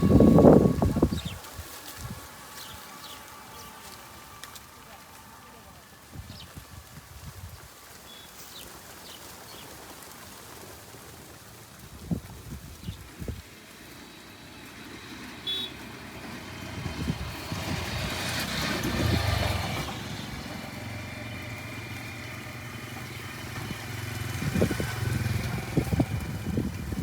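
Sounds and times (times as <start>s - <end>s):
engine humming: 0.0s - 8.5s, 10.0s - 27.0s.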